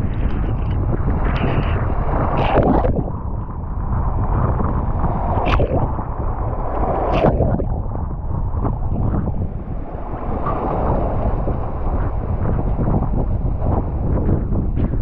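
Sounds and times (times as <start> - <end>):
water sounds: 0.0 - 15.0
wind buffeting microphone: 0.0 - 15.0.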